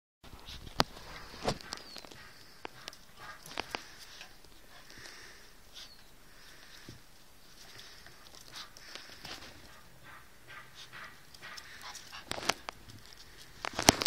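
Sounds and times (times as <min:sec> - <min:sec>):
dogs scuffling: 0:00.3 - 0:14.0.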